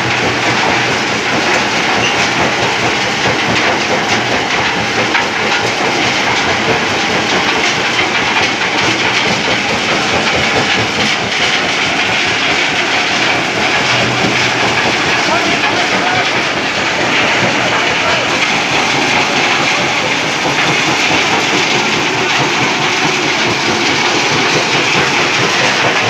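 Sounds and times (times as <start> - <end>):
low machine hum: 0.0 - 26.0
rock crusher rattling and grinding: 0.0 - 26.0.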